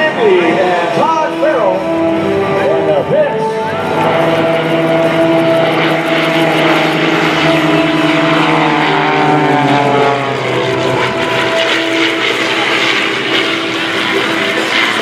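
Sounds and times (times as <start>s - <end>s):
biplane engines flying past: 0.0s - 15.0s.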